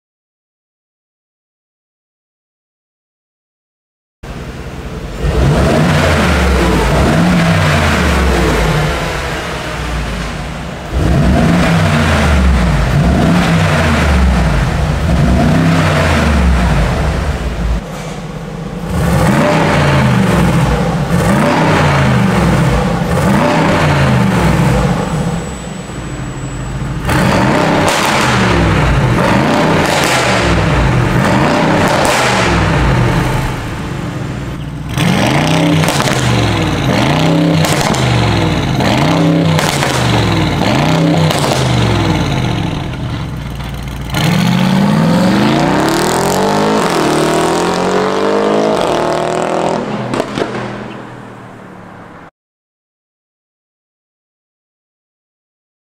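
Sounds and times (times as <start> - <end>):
car engine revving: 4.3 - 52.3
car accelerating away: 5.0 - 25.6, 26.8 - 52.0.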